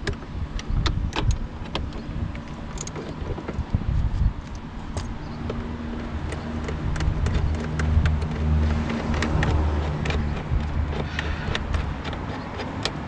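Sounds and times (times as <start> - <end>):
car door clicking and knocking: 0.0 - 3.8, 4.6 - 13.0
low rumble on microphone: 0.0 - 12.3.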